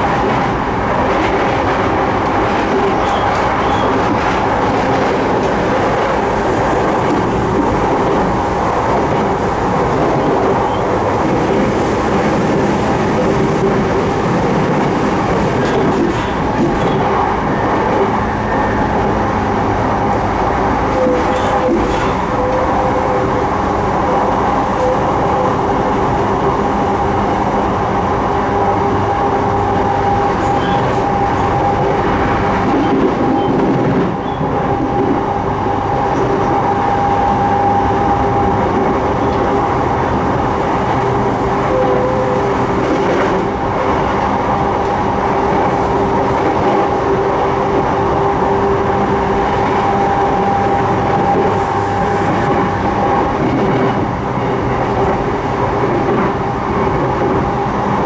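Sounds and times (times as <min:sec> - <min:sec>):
train running on rails: 0:00.0 - 0:58.0.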